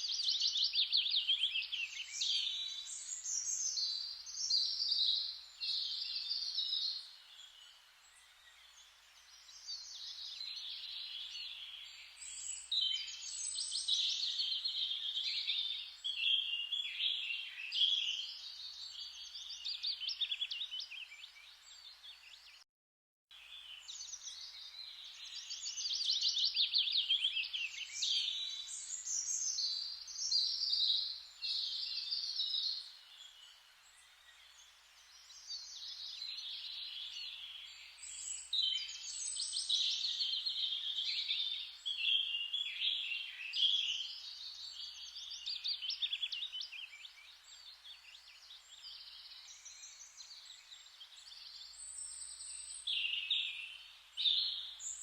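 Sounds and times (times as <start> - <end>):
birds chirping and trilling: 0.0 - 22.6, 23.5 - 55.0.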